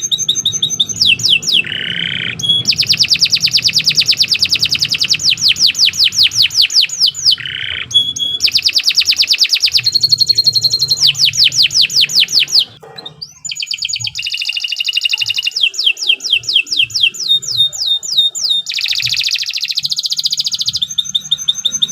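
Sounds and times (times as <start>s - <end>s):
canary singing rapid trills: 0.0s - 21.9s.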